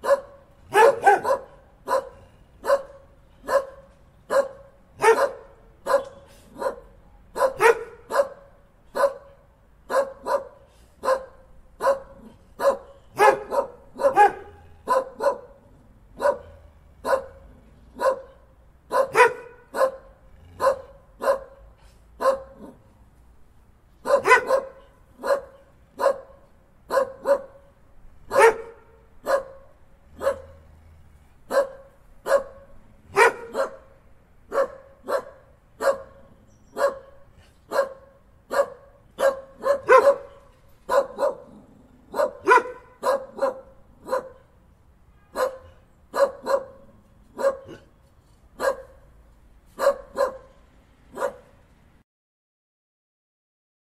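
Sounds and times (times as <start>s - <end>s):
dogs barking: 0.0s - 22.9s, 24.0s - 30.8s, 31.4s - 44.6s, 45.3s - 47.9s, 48.6s - 51.6s.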